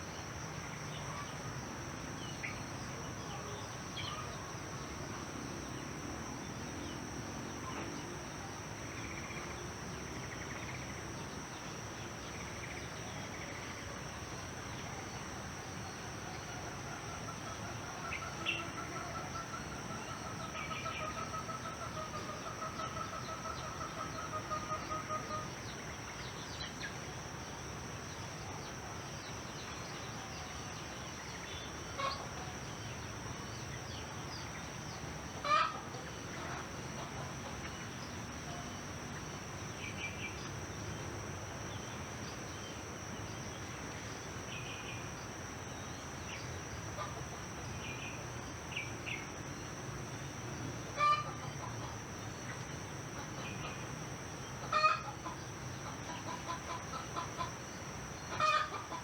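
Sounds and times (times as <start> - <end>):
cricket drone: 0.0 - 59.0.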